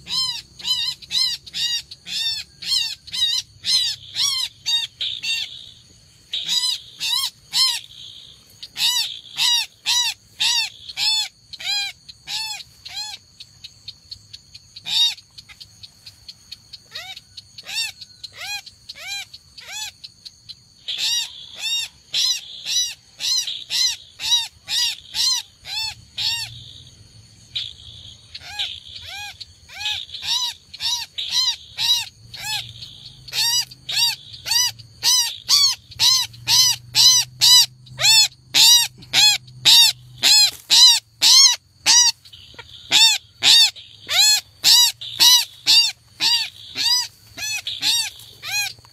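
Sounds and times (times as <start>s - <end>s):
crake calling: 0.0s - 26.8s, 27.5s - 48.9s.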